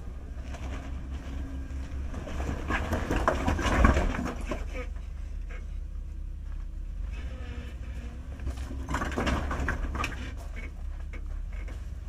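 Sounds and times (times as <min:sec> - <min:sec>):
engine working under load: 0:00.0 - 0:12.0
steady low rumble: 0:00.0 - 0:12.0
tires scraping on rock: 0:00.0 - 0:12.0.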